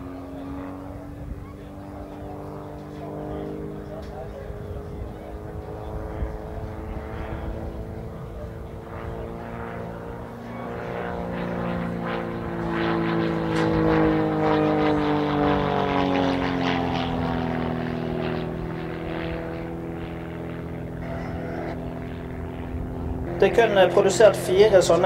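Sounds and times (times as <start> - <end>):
biplane engine and propeller: 0.0 - 25.0.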